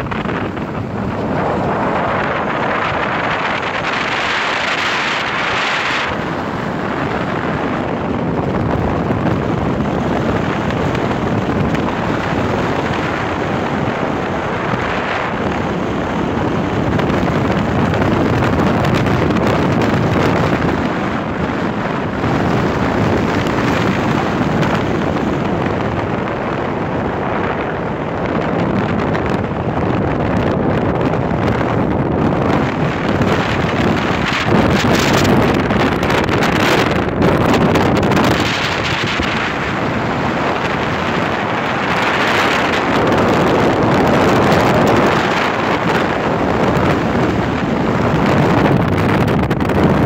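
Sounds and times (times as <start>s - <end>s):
car tyre and road noise: 0.0s - 50.0s
wind buffeting microphone: 0.0s - 50.0s.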